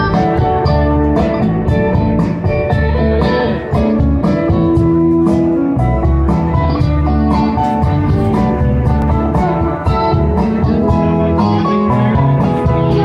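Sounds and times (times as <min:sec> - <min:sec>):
bass guitar: 0:00.0 - 0:13.0
electric guitars: 0:00.0 - 0:13.0
steady drum beat: 0:00.0 - 0:13.0.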